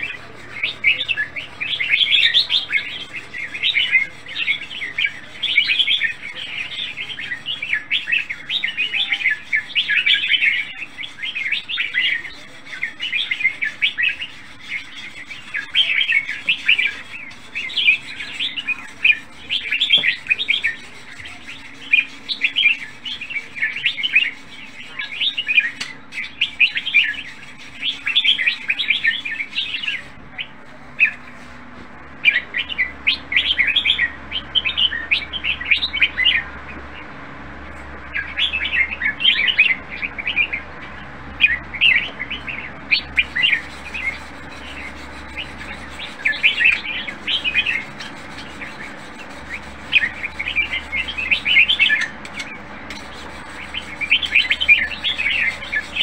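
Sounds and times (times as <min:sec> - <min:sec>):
bird singing bright phrases: 0:00.0 - 0:56.0.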